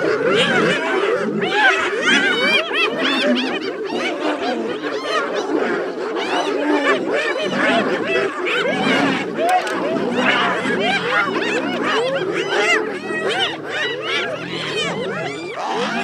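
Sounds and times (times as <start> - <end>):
hyenas giggling and calling: 0.0 - 16.0.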